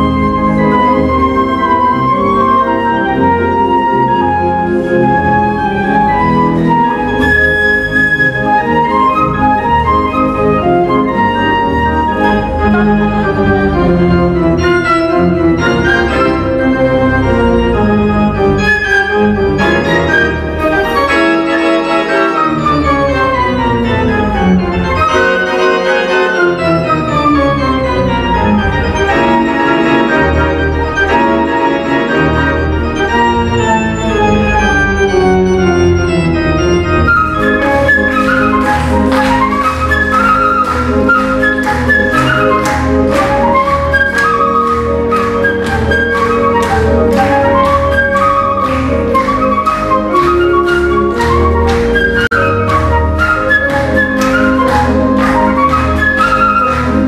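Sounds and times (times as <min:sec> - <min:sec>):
flute melody: 0:00.0 - 0:57.0
keyboard accompaniment: 0:00.0 - 0:57.0.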